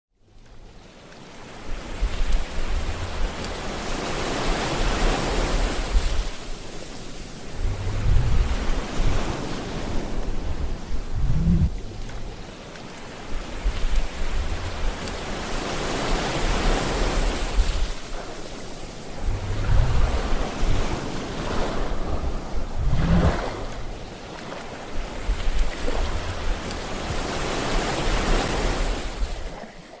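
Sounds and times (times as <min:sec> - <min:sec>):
sea waves breaking on shore: 0:00.2 - 0:30.0.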